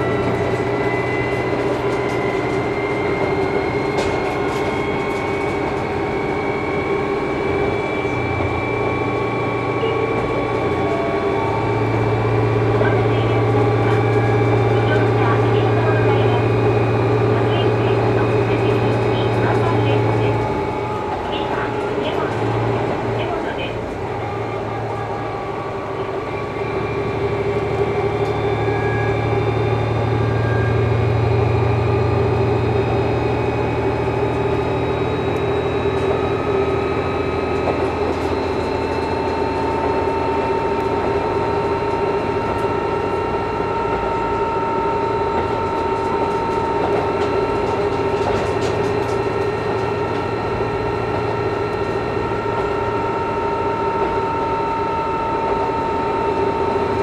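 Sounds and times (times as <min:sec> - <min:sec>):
low engine drone: 0:00.0 - 0:57.0
steady whining tones: 0:00.0 - 0:57.0.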